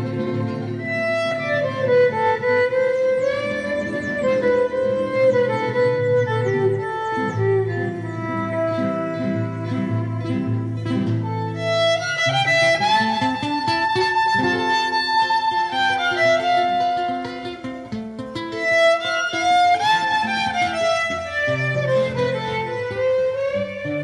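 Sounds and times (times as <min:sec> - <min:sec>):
strummed guitar chords: 0:00.0 - 0:24.0
violin melody with slides: 0:00.0 - 0:24.0.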